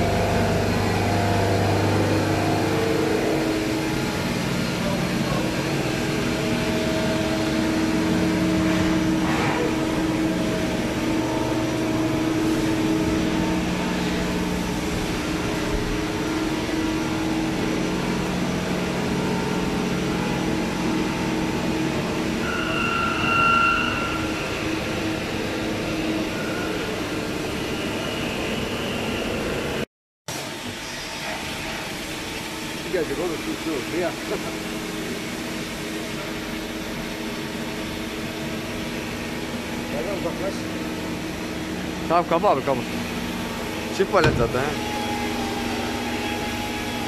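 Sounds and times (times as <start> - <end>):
high-pitched machine whine: 0.0 - 29.8, 30.4 - 47.0
machining center humming: 0.0 - 29.8, 32.0 - 47.0.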